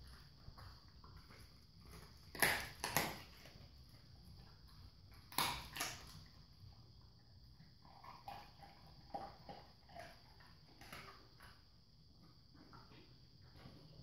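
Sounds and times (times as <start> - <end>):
dog licking floor: 0.0 - 11.6.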